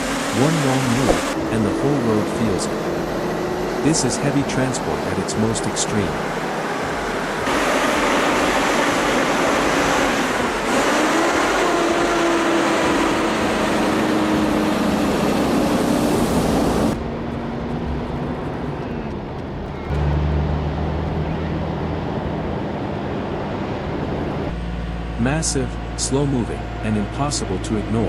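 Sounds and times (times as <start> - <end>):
heavy truck engine drone: 0.0 - 28.0.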